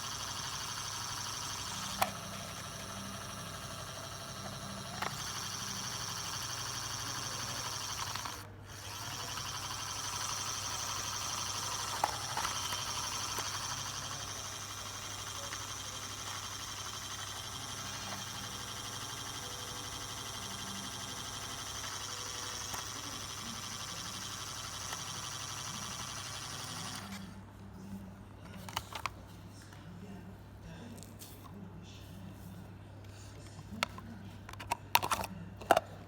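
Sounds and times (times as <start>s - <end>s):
toy washing machine running: 0.0s - 27.3s, 28.7s - 29.1s, 33.8s - 35.8s.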